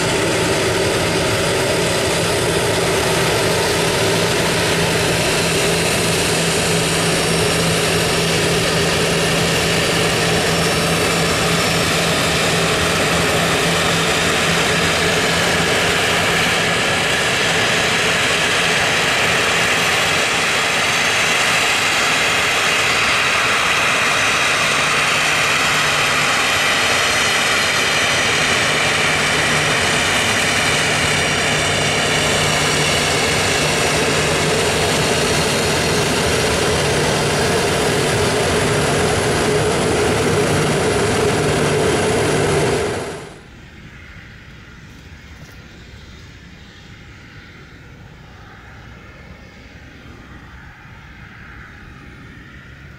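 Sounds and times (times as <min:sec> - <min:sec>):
jet engine whine: 0:00.0 - 0:52.9.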